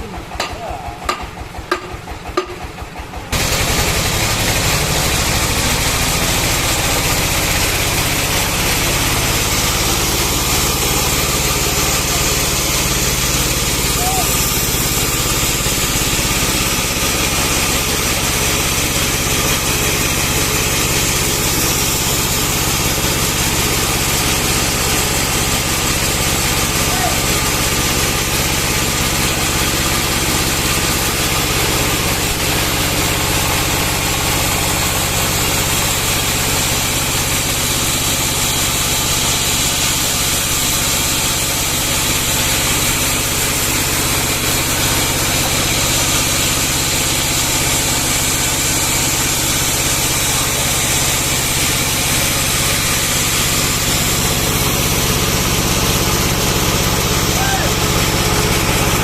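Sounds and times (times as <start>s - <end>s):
sawmill engine drone: 0.0s - 59.0s.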